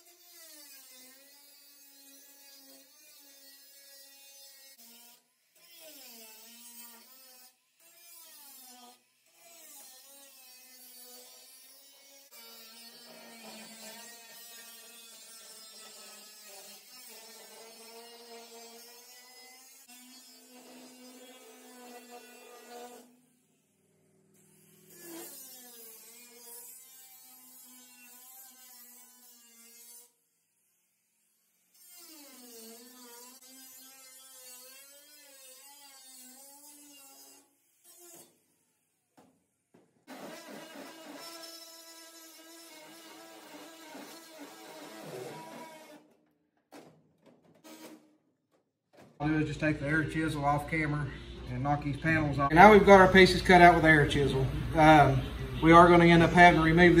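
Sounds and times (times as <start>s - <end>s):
angle grinder cutting sheet steel: 0.0s - 38.3s, 40.1s - 46.2s, 47.6s - 48.1s, 52.0s - 57.0s.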